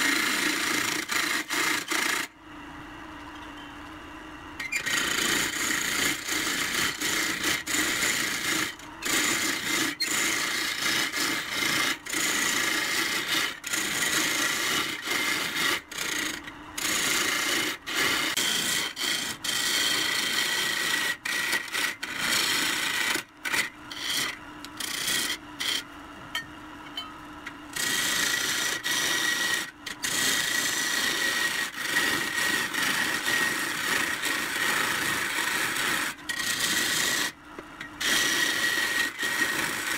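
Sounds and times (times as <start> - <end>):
lathe tool scraping wood: 0.0 - 2.3, 4.6 - 25.9, 27.7 - 39.9.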